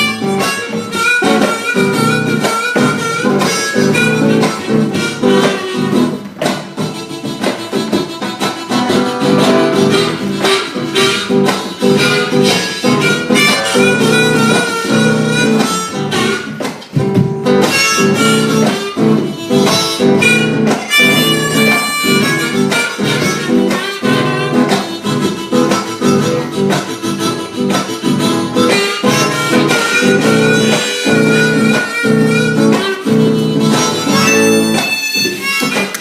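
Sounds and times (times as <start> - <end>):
country blues band playing: 0.0 - 36.0.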